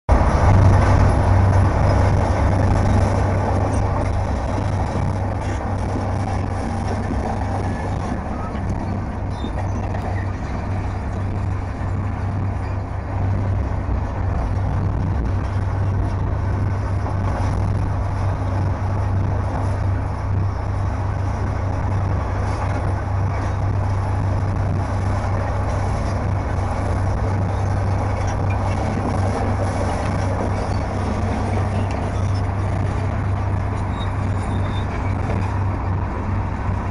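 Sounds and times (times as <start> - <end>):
bulldozer diesel engine droning: 0.1 - 36.9.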